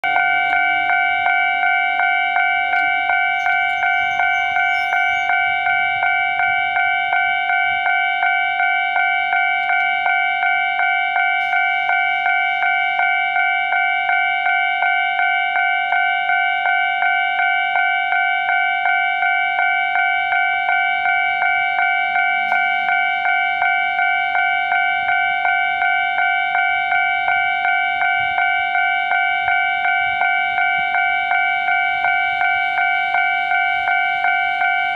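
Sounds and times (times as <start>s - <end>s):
level crossing bell dinging: 0.0s - 34.9s.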